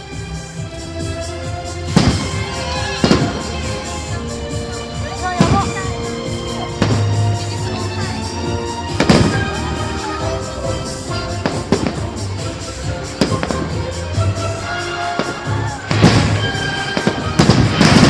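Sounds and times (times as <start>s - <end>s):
music with sustained notes: 0.0s - 18.0s
fireworks bangs: 1.0s - 18.0s.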